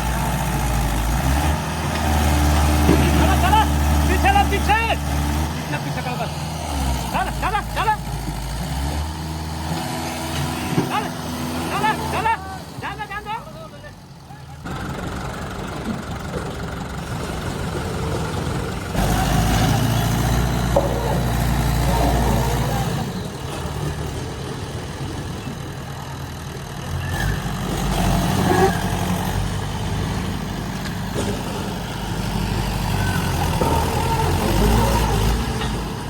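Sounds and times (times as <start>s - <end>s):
tractor diesel engine revving: 0.0s - 36.0s.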